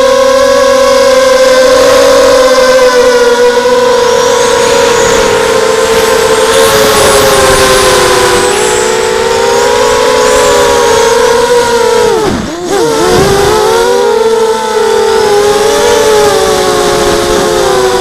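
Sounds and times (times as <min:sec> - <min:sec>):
drone motors buzzing whine: 0:00.0 - 0:18.0.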